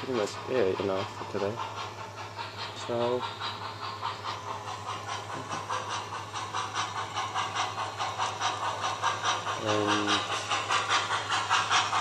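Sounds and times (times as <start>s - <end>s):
low hum of running train: 0.0s - 12.0s
model steam locomotive chuffing: 0.0s - 12.0s.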